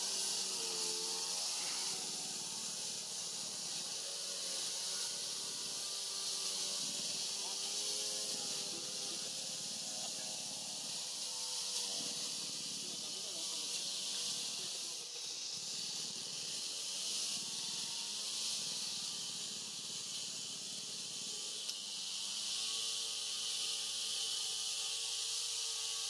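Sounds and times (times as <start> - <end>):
high-pitched hiss: 0.0 - 26.0.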